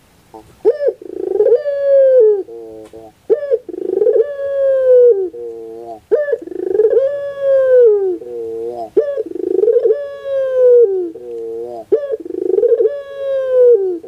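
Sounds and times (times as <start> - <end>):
dove cooing: 0.3 - 14.0.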